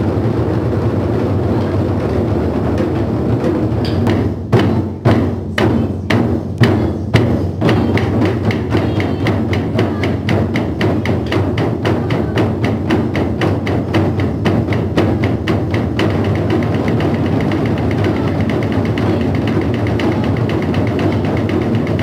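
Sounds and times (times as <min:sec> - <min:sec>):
taiko drums struck with sticks: 0:00.0 - 0:22.0.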